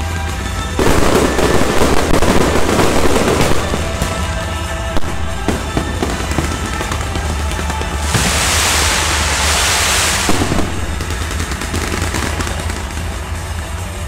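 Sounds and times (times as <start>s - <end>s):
fireworks bursting and crackling: 0.0s - 14.0s
music playing: 0.0s - 14.0s
firework bang: 0.8s - 13.4s.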